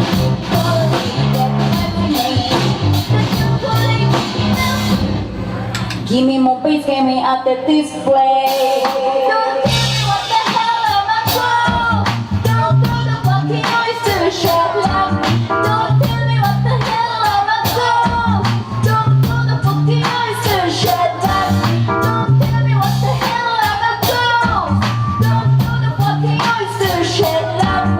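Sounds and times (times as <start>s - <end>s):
live band music: 0.0s - 27.9s
woman singing: 0.1s - 5.0s, 6.1s - 27.9s.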